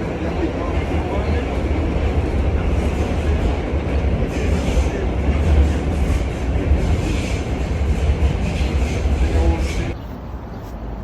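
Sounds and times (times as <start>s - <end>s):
wheels clacking on rails: 0.0s - 10.0s
subway train rumble: 0.0s - 11.0s.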